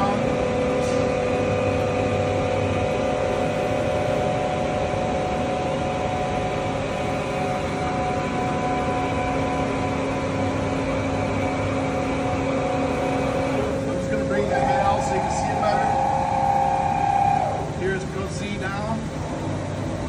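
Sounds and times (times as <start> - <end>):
low tone: 0.0 - 17.9
machinery hum: 0.0 - 20.0
steady tones: 0.0 - 20.0.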